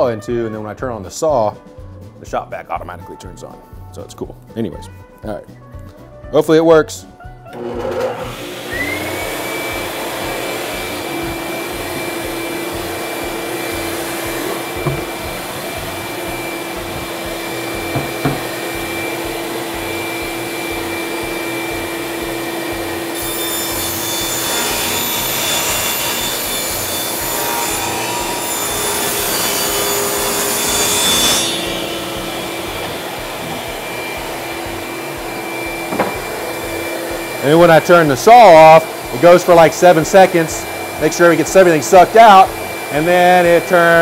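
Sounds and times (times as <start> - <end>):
power saw running: 7.5 - 44.0
shop vacuum running: 7.5 - 44.0
saw blade cutting plywood: 7.6 - 44.0.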